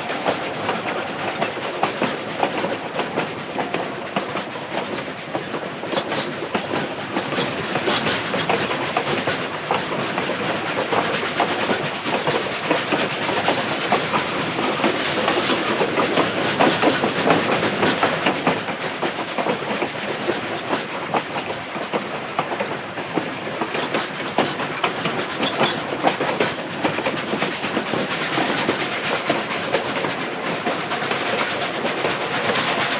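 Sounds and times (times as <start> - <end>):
train wheels clattering on rails: 0.0 - 32.9.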